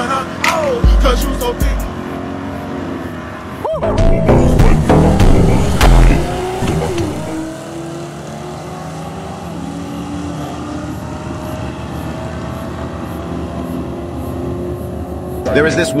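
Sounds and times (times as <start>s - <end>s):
drag racing engines accelerating: 0.0s - 16.0s.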